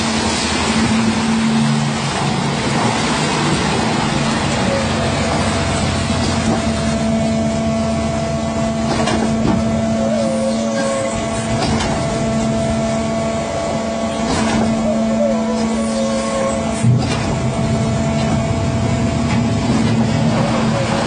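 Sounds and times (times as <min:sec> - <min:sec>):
engine droning with whine: 0:00.0 - 0:21.0.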